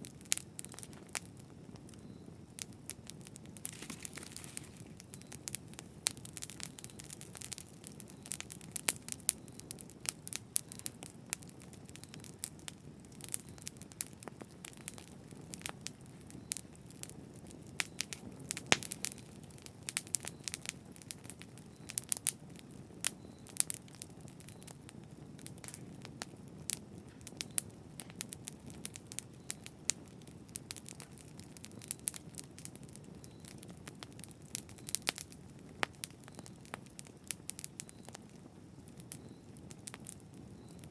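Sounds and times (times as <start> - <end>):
campfire crackling and popping: 0.0 - 40.9
low rumble of flames: 0.0 - 40.9.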